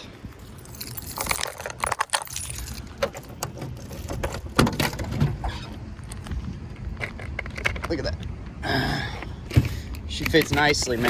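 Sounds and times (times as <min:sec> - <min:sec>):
handling clicks and knocks: 0:00.4 - 0:08.6, 0:09.5 - 0:11.0.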